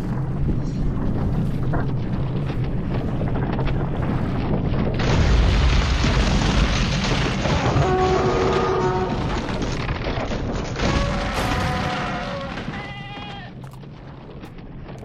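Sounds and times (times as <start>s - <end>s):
dense low rumble: 0.0s - 15.0s.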